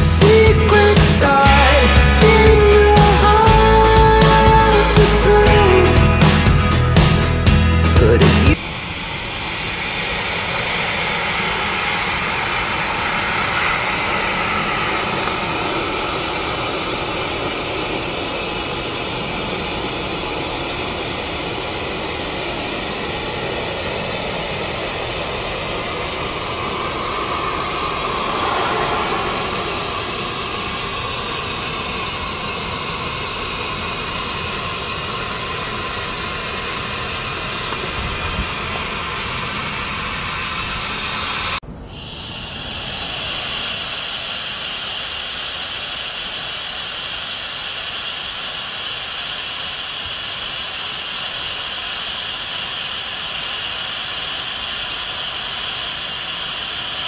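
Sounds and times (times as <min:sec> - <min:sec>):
electric air pump blowing air: 0:08.6 - 0:57.0.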